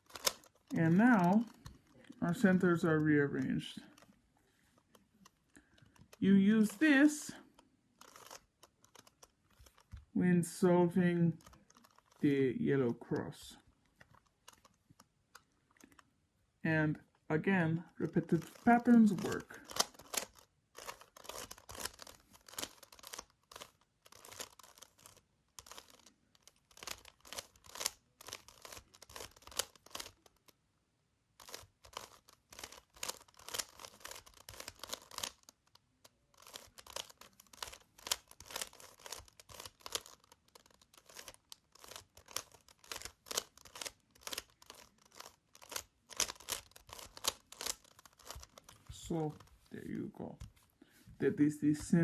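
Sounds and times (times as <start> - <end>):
puzzle cube plastic clicks: 0.0 - 16.2, 16.9 - 30.6, 31.3 - 49.8.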